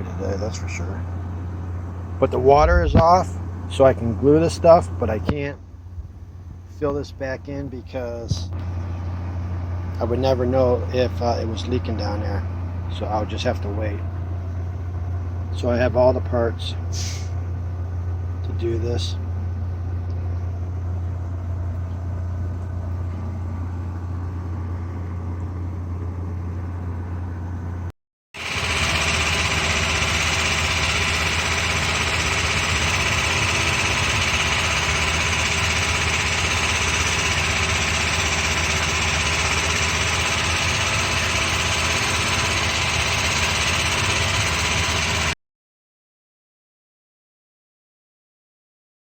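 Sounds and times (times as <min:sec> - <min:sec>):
engine idling: 0:00.0 - 0:45.4.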